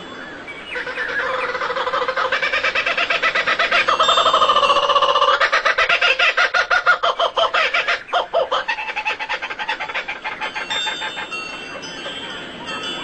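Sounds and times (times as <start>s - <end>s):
fowl clucking: 0.8s - 12.2s.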